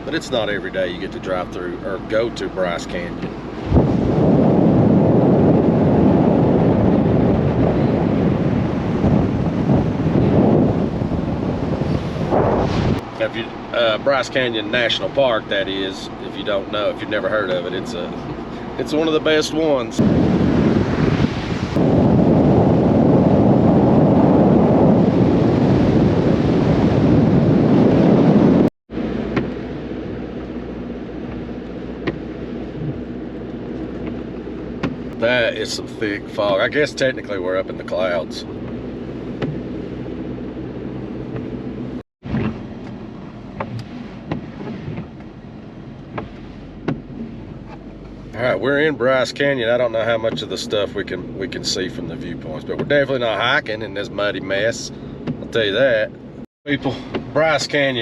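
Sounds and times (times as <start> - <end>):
wind buffeting microphone: 0.0 - 56.1
steady road noise: 0.0 - 58.0.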